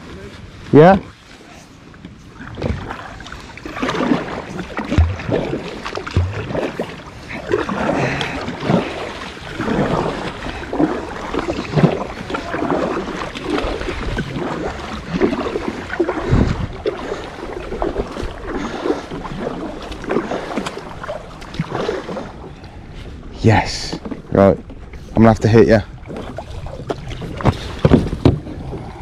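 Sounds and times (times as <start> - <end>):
paddle splashing in water: 1.2 - 23.2, 23.8 - 25.2, 25.9 - 29.0.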